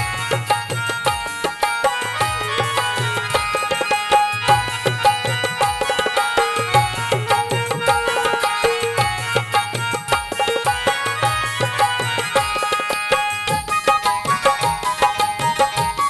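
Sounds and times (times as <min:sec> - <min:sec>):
electronic keyboard melody: 0:00.0 - 0:16.0.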